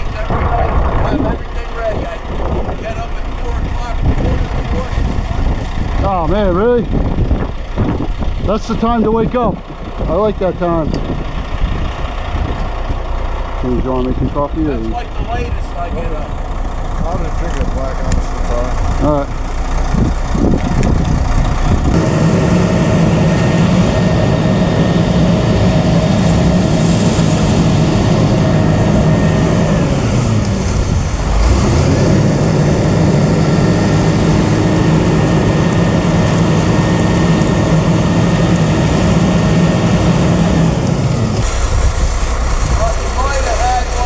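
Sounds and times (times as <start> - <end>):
machine engine running: 0.0 - 44.0.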